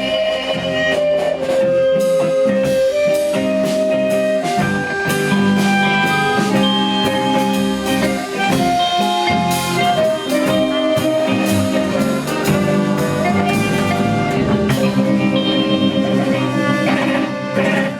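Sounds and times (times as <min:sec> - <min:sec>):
drum kit steady beat: 0:00.0 - 0:17.9
sustained melodic lead line: 0:00.0 - 0:17.9.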